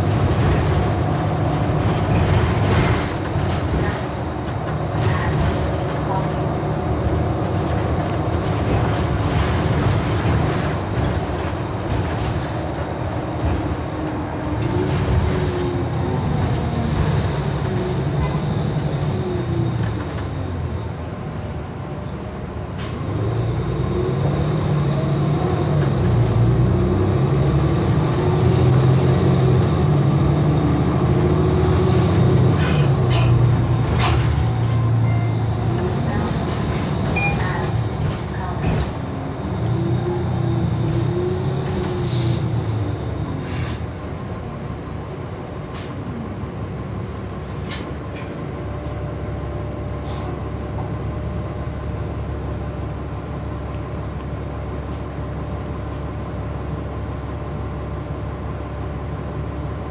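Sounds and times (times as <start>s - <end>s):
bus diesel engine accelerating: 0.0s - 59.9s.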